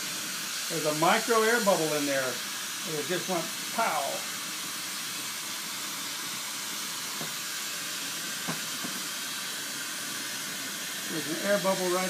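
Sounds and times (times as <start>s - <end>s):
glassworking torch hissing: 0.0s - 12.0s.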